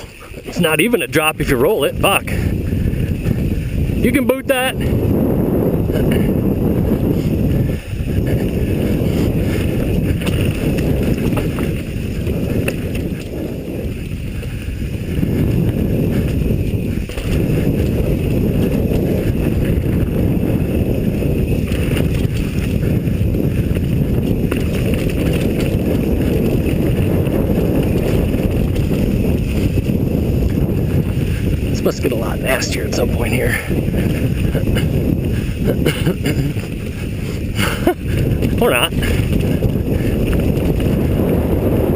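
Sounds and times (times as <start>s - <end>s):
bike clicking and rattling: 0.0s - 41.9s
wind buffeting microphone: 0.0s - 41.9s.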